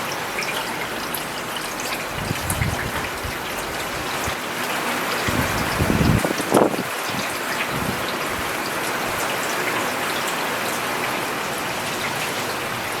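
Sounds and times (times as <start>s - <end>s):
rain on a paved road: 0.0s - 13.0s.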